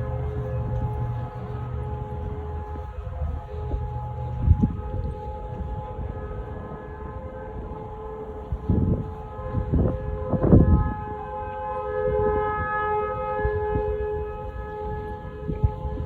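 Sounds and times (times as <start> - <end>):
low rumbles on microphone: 0.0 - 16.0
warning sirens steady chord: 0.0 - 16.0.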